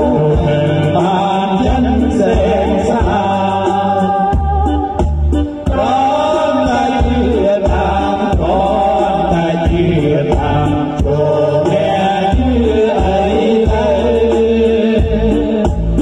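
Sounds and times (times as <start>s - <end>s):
person singing: 0.0s - 16.0s
repeating bass beat: 0.0s - 16.0s.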